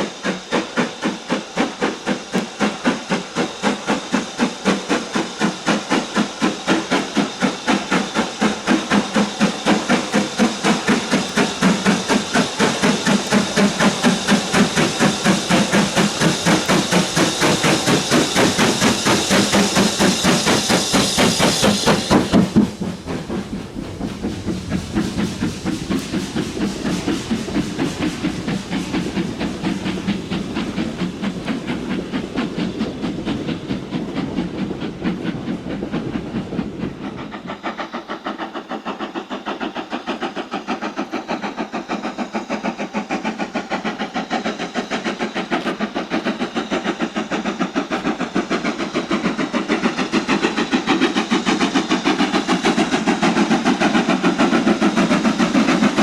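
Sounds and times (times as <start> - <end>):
steam hissing: 0.0 - 56.0
steam locomotive exhaust beats: 0.0 - 56.0.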